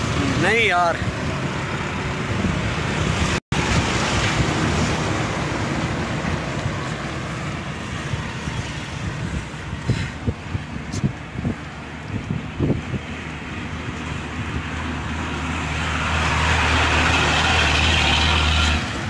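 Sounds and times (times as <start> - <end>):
road traffic: 0.0 - 19.0
wind buffeting microphone: 1.0 - 17.2.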